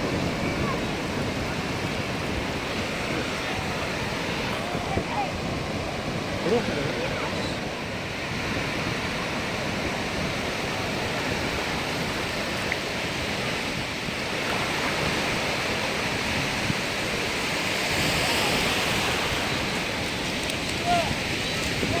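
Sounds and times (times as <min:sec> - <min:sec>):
sea surf washing on shore: 0:00.0 - 0:22.0.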